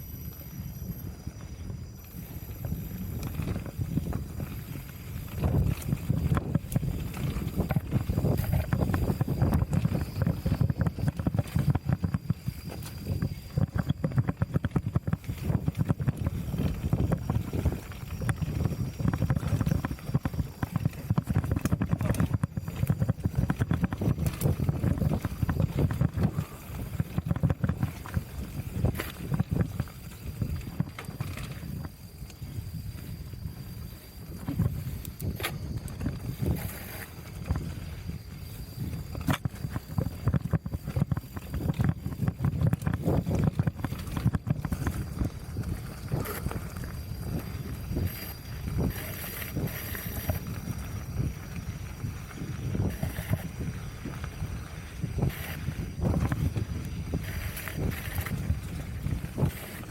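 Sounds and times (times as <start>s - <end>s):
wind buffeting microphone: 0.0s - 59.9s
mountain bike rattling and knocking: 0.2s - 59.9s.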